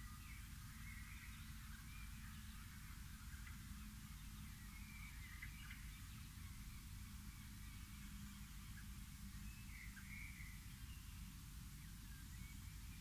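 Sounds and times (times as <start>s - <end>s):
low steady background rumble: 0.0s - 13.0s
songbirds chirping: 0.0s - 13.0s.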